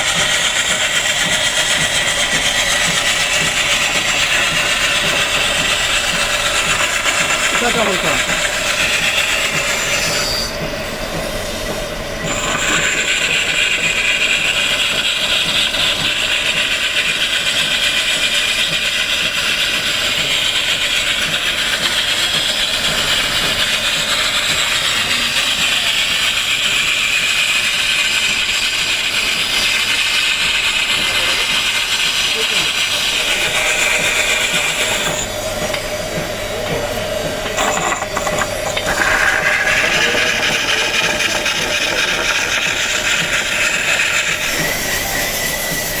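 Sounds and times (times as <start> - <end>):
power tool grinding stone: 0.0 - 10.6, 12.2 - 35.8, 37.4 - 46.0.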